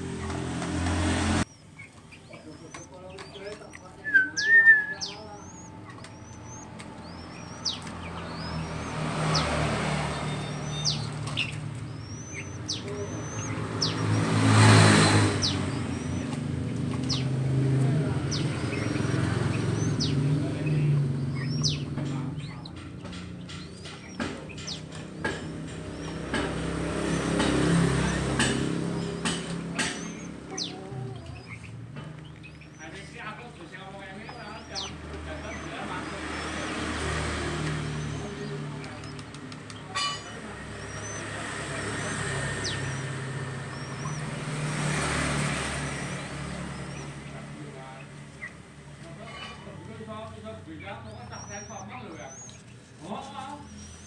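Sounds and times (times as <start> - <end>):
vehicles passing: 0.0 - 54.0
high thin bird chirps: 0.1 - 54.0.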